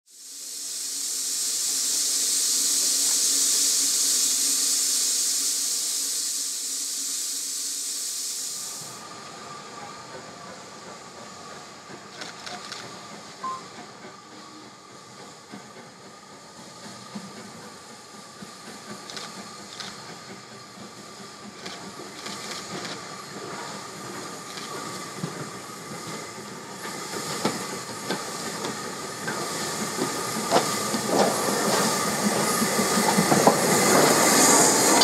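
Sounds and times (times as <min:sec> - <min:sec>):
steam locomotive hissing: 0:00.1 - 0:35.0.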